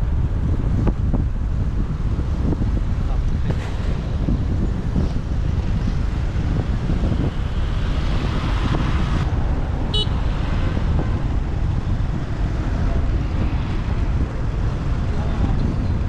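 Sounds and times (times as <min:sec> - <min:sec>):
traffic noise: 0:00.0 - 0:16.0
wind rumble on microphone: 0:00.0 - 0:16.0.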